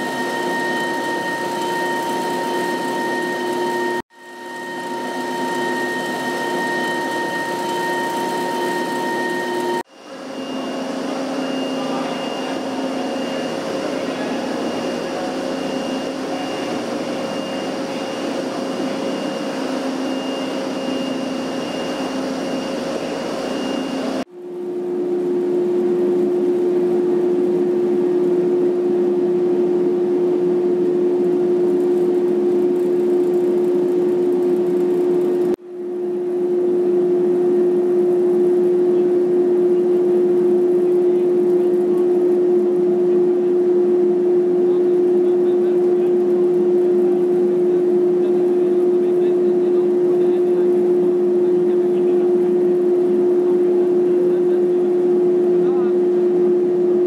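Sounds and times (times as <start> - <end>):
conveyor motor hum: 0.0 - 57.0
machinery drone: 0.0 - 57.0.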